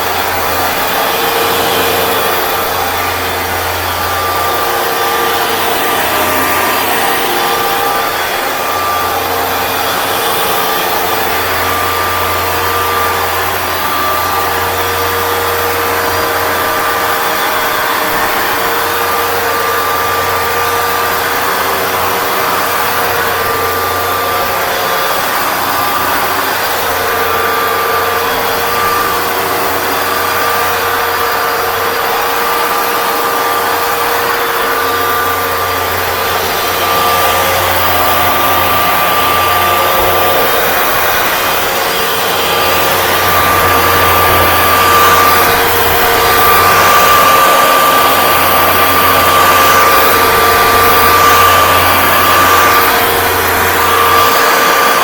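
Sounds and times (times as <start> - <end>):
carpet cleaner motor whine: 0.0 - 55.0
suction noise: 0.0 - 55.0.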